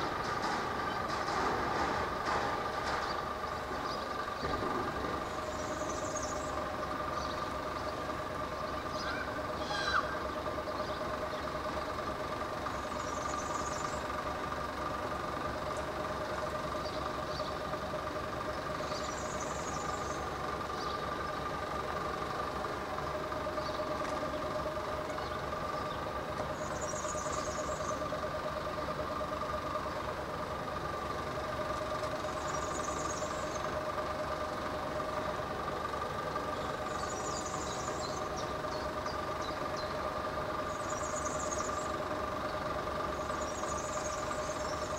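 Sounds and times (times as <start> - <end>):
engine idling: 0.0 - 44.9.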